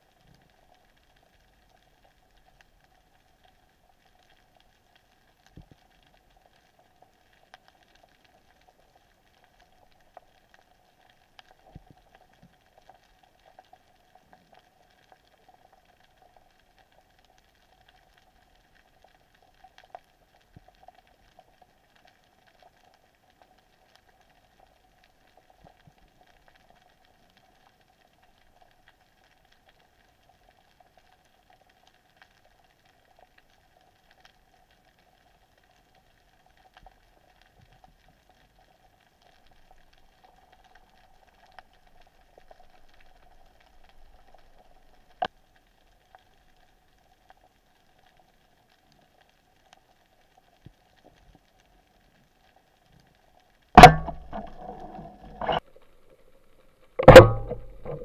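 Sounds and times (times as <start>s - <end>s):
underwater crackle of tiny clicks: 0.0s - 58.0s.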